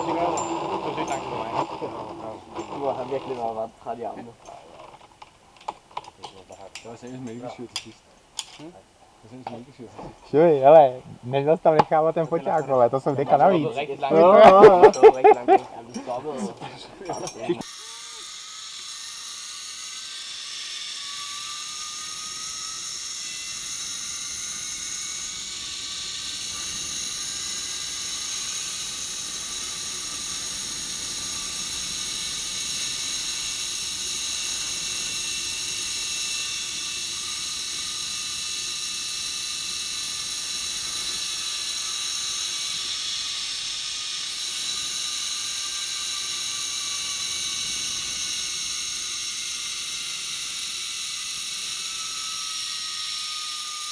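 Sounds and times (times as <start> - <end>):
zipline pulley whining on cable: 0.0 - 7.7, 12.2 - 53.9.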